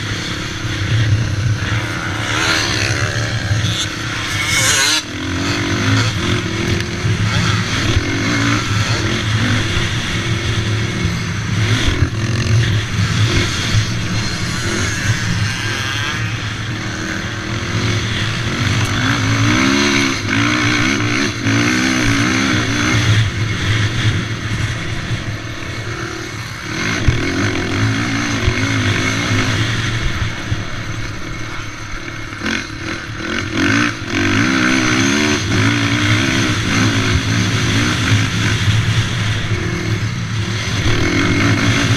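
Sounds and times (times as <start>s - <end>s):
quad engine revving: 0.0s - 24.1s, 32.4s - 41.9s.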